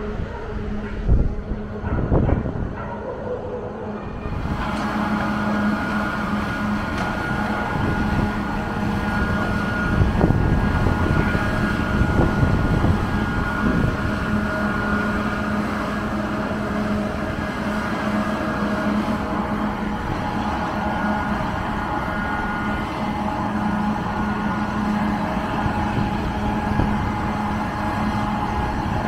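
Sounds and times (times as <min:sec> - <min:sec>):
excavator diesel engine humming: 0:00.0 - 0:29.0.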